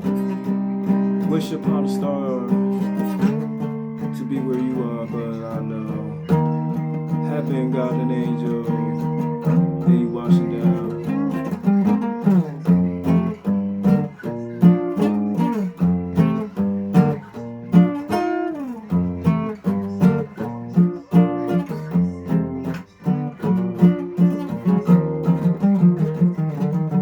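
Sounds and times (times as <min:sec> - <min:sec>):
acoustic guitar picking: 0:00.0 - 0:27.0.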